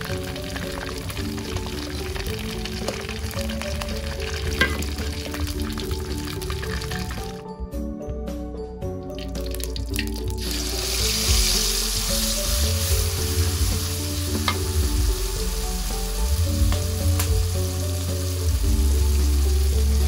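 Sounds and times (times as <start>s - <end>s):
paste sizzling in hot oil: 0.0s - 7.4s, 10.3s - 20.0s.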